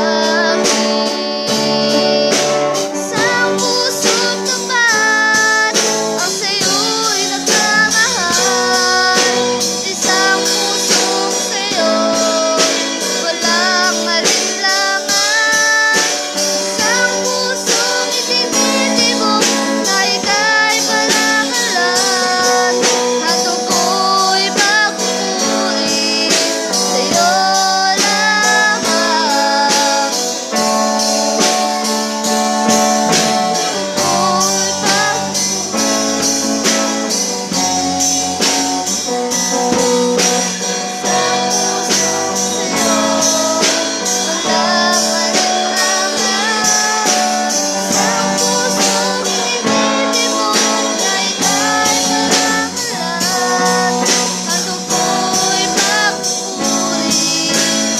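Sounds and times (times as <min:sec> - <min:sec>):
drums keeping a beat: 0:00.0 - 0:57.9
guitar: 0:00.0 - 0:57.9
voices singing: 0:00.0 - 0:57.9.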